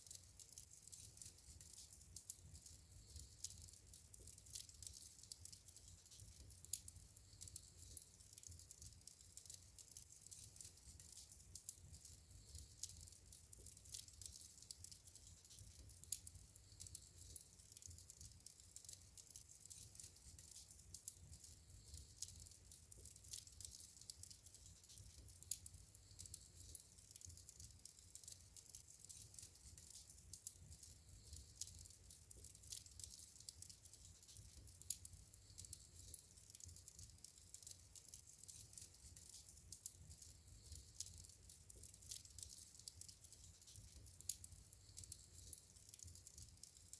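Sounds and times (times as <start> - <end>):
fireplace wood crackling: 0.1 - 46.9.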